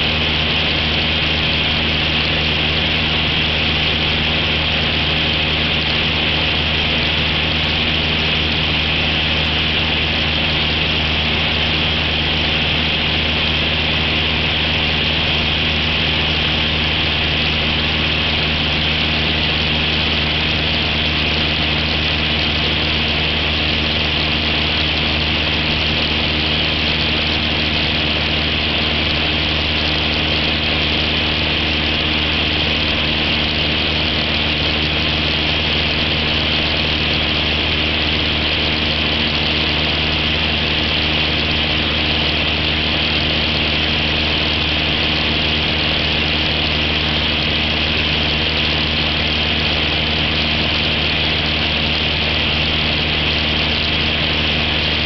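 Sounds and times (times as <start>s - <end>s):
aircraft engine drone in cabin: 0.0s - 55.0s.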